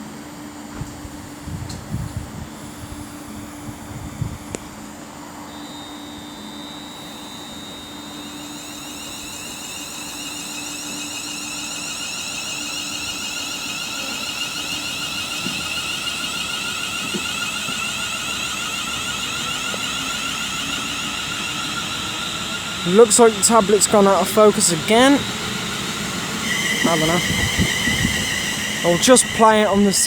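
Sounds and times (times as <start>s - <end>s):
electric train motors whining: 0.0s - 30.0s.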